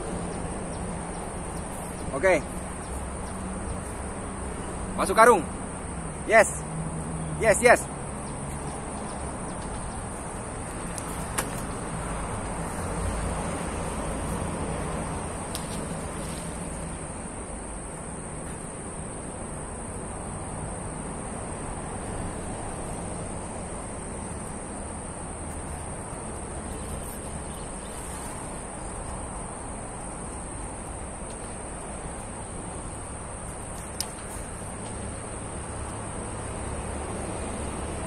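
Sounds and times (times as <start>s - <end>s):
low outdoor rushing noise: 0.0s - 38.0s.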